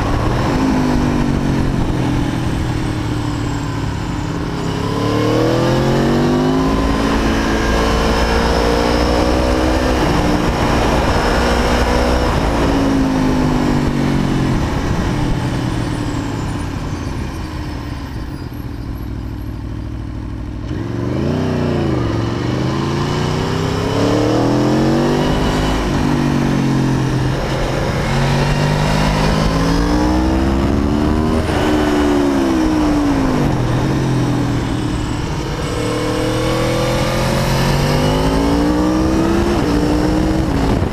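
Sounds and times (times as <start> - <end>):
motorcycle engine revving: 0.0 - 17.3, 19.0 - 40.9.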